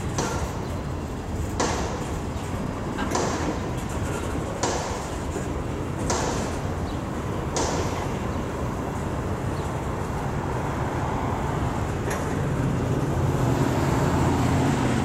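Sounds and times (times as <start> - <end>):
rail cars clattering: 0.0 - 15.0
train wheels rumbling on rail: 0.0 - 15.0.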